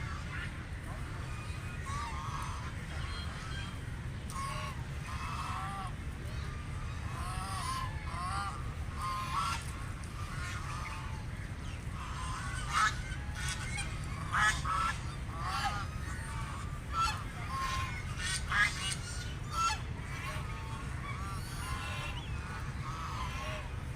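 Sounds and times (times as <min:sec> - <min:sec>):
ducks quacking: 0:00.0 - 0:23.9
steady low rumble: 0:00.0 - 0:23.9.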